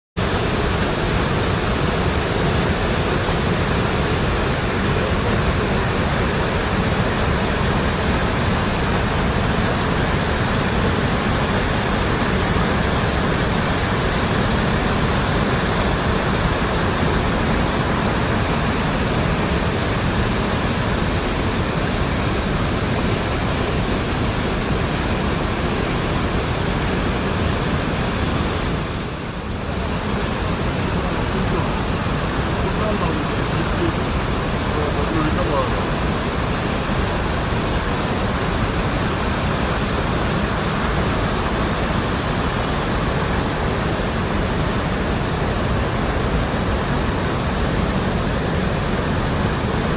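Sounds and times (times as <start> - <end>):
loud rush of falling water: 0.2 - 49.9.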